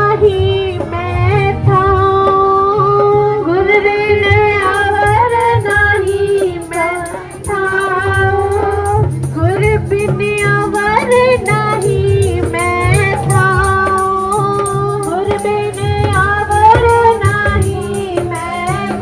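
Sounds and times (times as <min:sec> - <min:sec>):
instrumental accompaniment: 0:00.0 - 0:19.0
woman singing: 0:00.0 - 0:19.0.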